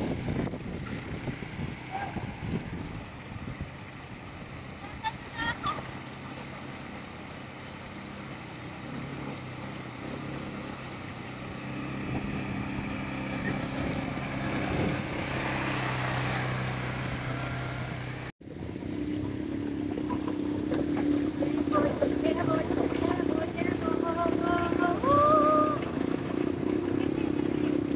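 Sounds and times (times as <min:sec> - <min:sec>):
quad bike engine running: 0:00.0 - 0:27.9
steady engine-like hum: 0:00.0 - 0:27.9
water rushing and splashing: 0:00.0 - 0:27.9.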